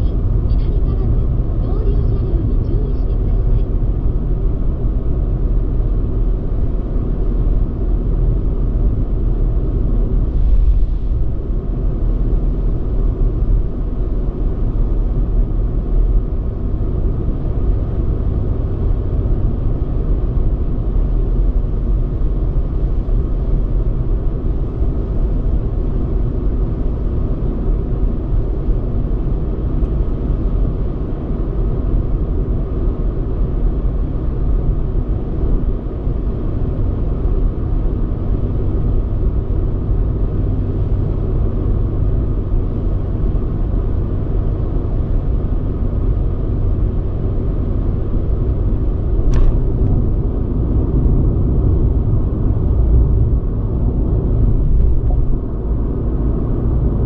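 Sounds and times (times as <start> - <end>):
car engine: 0.0 - 57.0
tyres rumbling on road: 0.0 - 57.0.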